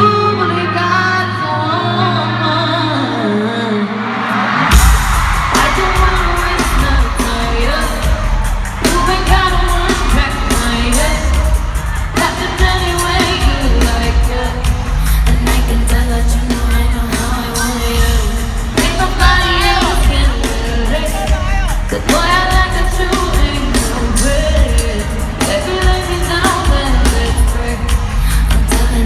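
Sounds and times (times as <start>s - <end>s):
person singing: 0.0s - 29.0s
bass and drum beat: 4.7s - 29.0s.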